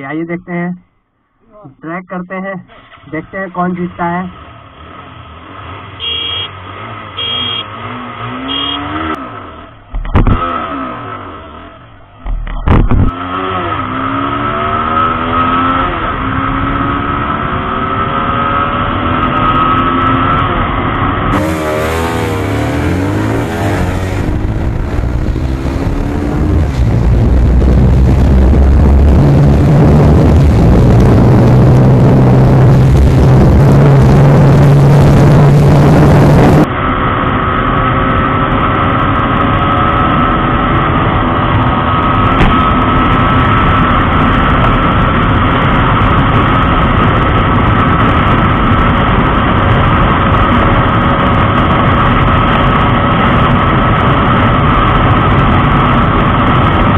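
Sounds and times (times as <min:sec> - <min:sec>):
motorcycle engine accelerating: 0:04.3 - 0:56.9
wind rush: 0:09.5 - 0:56.9.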